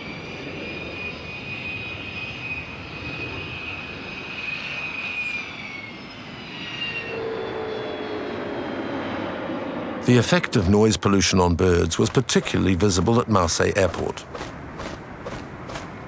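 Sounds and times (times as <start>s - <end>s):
jet engines roaring overhead: 0.0s - 16.0s.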